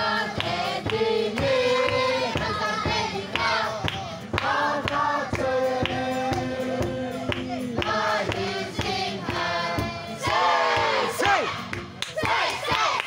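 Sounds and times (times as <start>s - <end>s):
steady beat: 0.0s - 12.0s
group of voices singing: 0.0s - 13.0s.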